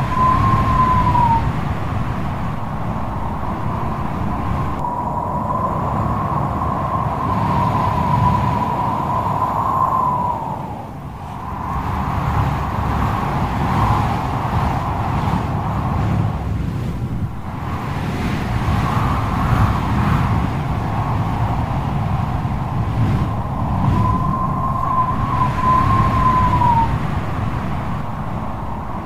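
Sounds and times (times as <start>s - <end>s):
gusts buffeting microphone: 0.0s - 29.0s
wind shrieking and whistling: 0.0s - 29.0s.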